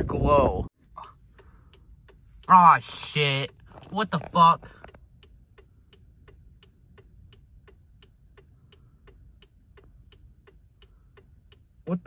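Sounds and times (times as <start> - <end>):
low background rumble: 0.0 - 12.0
faint steady ticking: 0.7 - 12.0.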